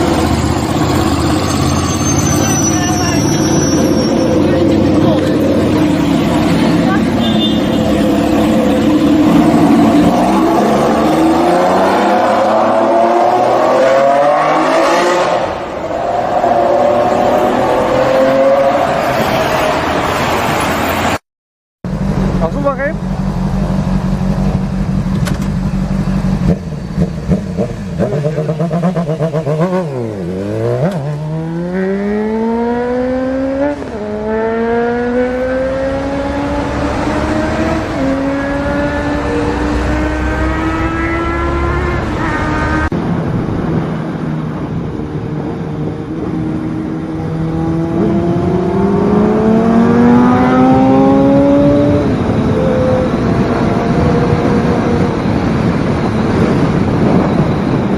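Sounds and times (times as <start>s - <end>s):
motorcycle engine accelerating: 4.1s - 15.8s, 21.9s - 57.9s.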